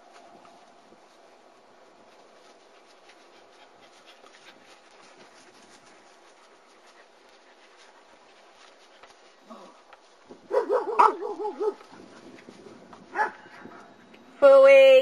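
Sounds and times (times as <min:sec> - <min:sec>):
puppies rustling on grass: 0:00.0 - 0:14.5.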